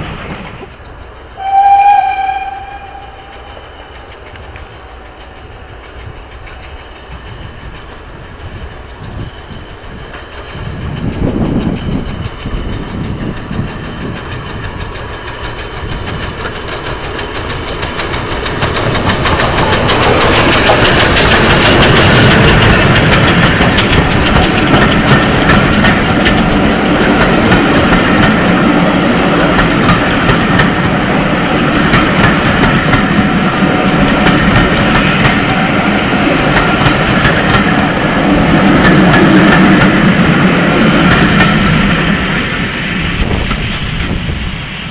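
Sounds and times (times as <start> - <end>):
wheels clattering on rails: 0.0 - 44.4
steam train passing: 0.0 - 44.9.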